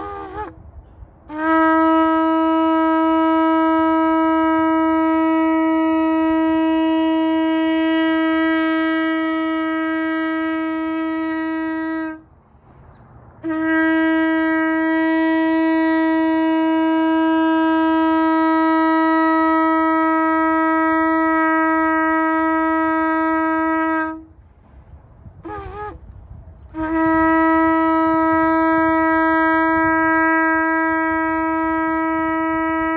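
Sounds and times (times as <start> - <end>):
shofar long held notes: 0.0 - 0.6, 1.3 - 12.3, 13.4 - 24.4, 25.3 - 26.1, 26.7 - 32.9.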